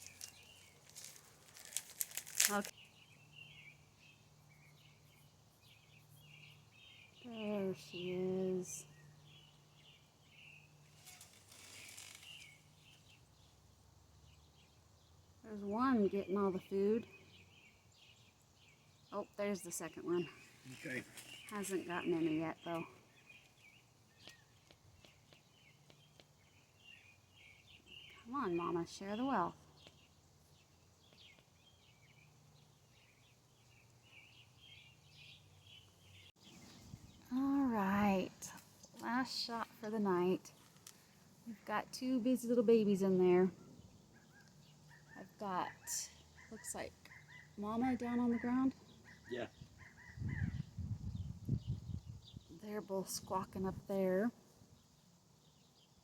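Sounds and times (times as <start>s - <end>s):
nestling birds chirping: 0.0s - 56.0s.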